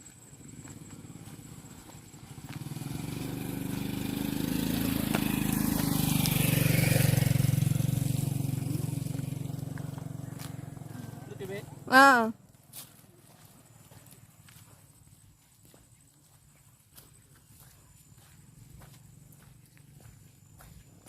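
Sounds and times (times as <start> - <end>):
motorcycle passing by: 0.1 - 15.5, 16.2 - 21.0.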